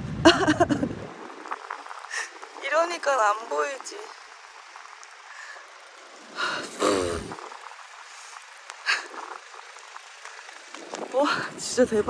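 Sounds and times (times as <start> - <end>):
strong wind hissing: 0.0 - 12.0
wind buffeting microphone: 0.0 - 12.0.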